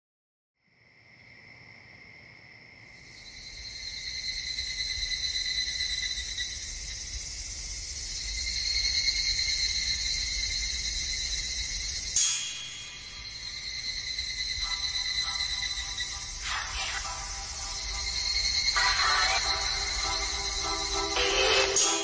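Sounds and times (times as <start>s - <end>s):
insects chirring: 0.6s - 22.0s.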